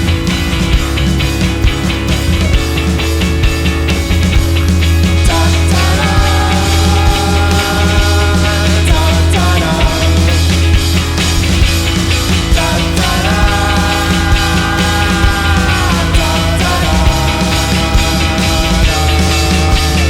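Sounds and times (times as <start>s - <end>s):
rock band playing live: 0.0s - 20.0s
steady drum beat: 0.0s - 20.0s.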